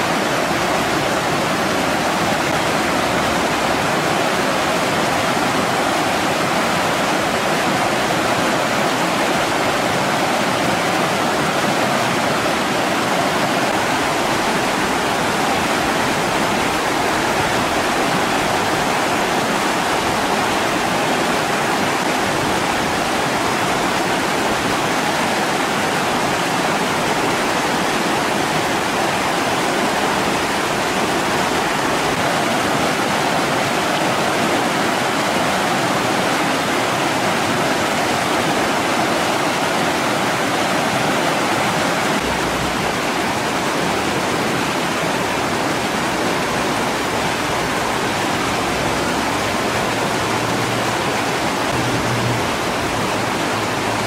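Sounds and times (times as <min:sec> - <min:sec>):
river rushing over rapids: 0:00.0 - 0:54.0.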